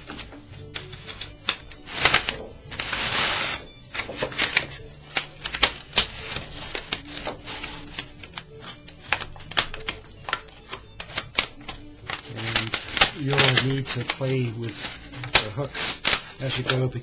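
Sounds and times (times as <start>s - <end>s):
wooden hoop clicking and rubbing: 0.0s - 17.0s.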